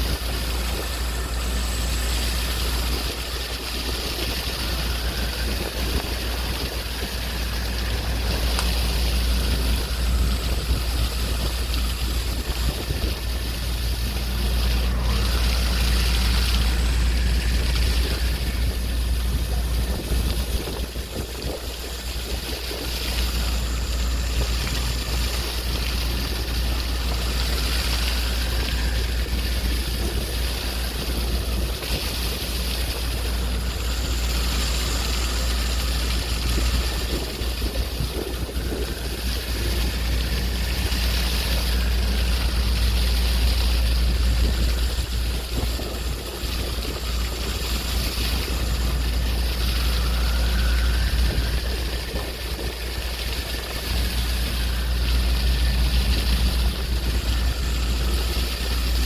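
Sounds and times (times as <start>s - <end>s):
low rumble: 0.0s - 59.0s
sea waves washing: 0.0s - 59.0s.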